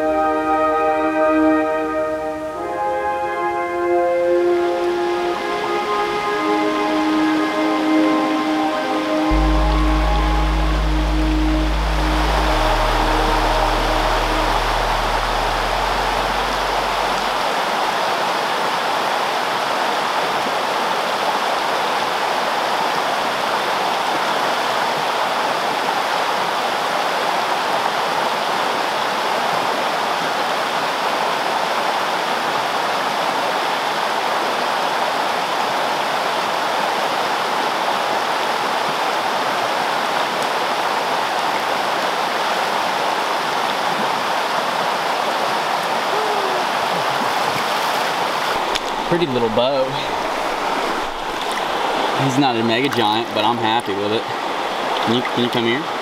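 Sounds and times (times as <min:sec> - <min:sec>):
creek rushing over rocks: 0:04.6 - 0:56.0.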